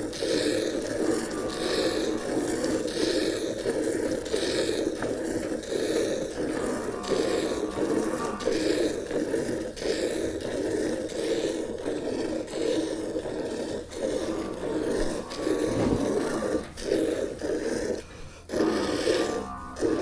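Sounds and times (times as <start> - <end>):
milk squirting into a pail: 0.0 - 20.0.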